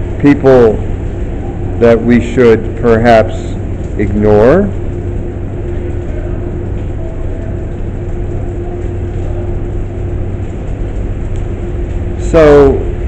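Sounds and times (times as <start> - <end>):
constant hum tone: 0.0 - 13.0
low mechanical rumble: 0.0 - 13.0.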